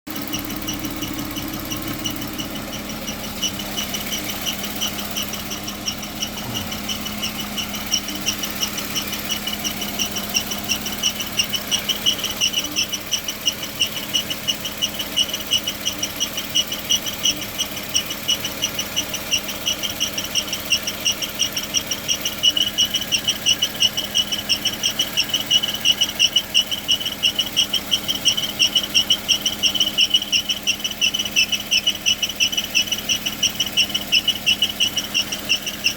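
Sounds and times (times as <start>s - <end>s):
car engine running: 0.1s - 35.9s
rapidly pulsing squeal: 0.1s - 35.9s.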